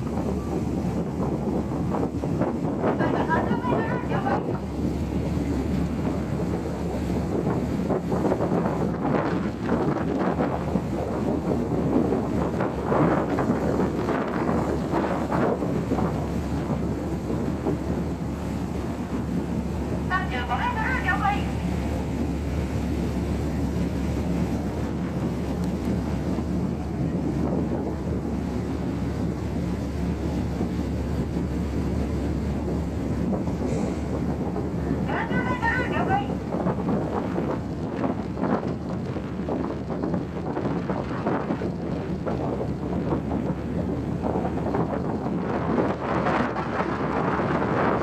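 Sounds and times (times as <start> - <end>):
ship engines droning: 0.0 - 48.0
wind buffeting microphone: 0.0 - 48.0.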